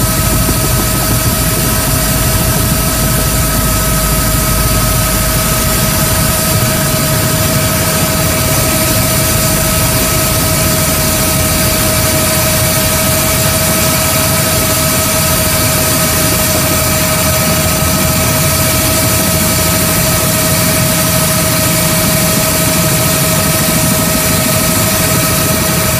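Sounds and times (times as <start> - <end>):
helicopter rotor and engine rumble: 0.0 - 25.9
helicopter turbine whine: 0.0 - 25.9.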